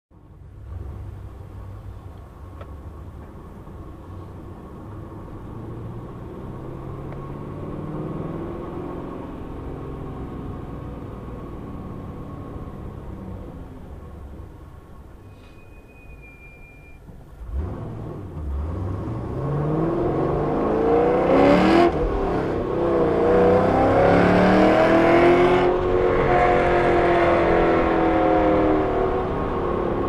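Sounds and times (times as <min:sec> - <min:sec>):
car engine heard from inside: 0:00.2 - 0:30.0.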